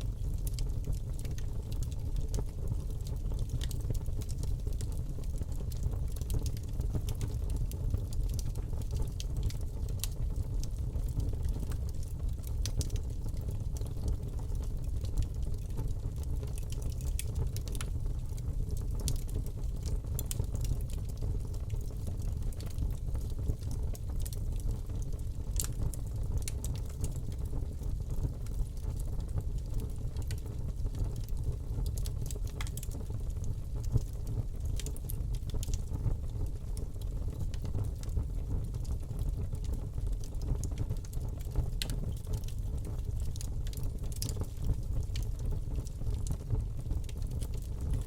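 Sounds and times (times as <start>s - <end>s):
fire crackling and popping: 0.0s - 48.0s
fire rumbling: 0.0s - 48.0s.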